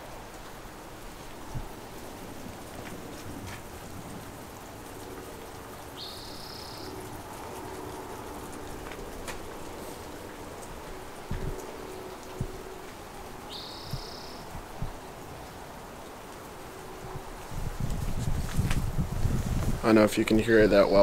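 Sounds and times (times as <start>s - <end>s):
heavy rain falling: 0.0s - 21.0s
raindrops ticking close by: 0.0s - 21.0s.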